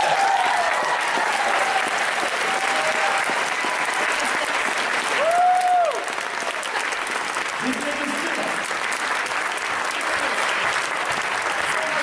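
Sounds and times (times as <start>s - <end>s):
audience applauding: 0.0s - 12.0s
crowd cheering: 0.0s - 12.0s.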